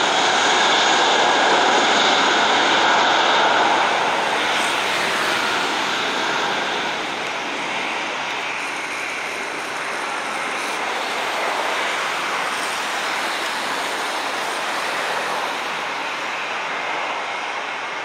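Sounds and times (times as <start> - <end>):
jet engines rushing with high whine: 0.0 - 18.0.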